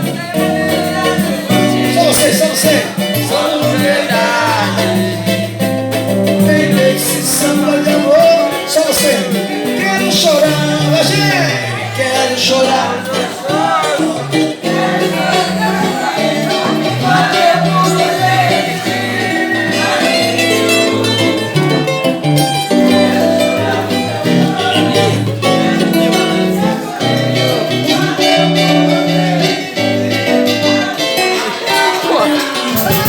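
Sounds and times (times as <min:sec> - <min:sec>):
bass line: 0:00.0 - 0:30.4, 0:32.7 - 0:33.0
band playing music: 0:00.0 - 0:33.0
plucked guitar strings: 0:00.0 - 0:33.0.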